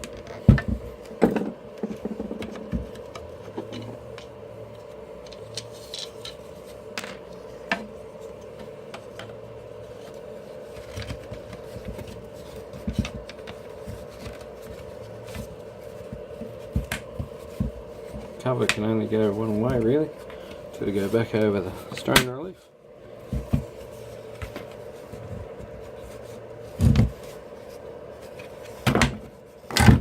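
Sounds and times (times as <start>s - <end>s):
steady hum: 0.0s - 30.0s.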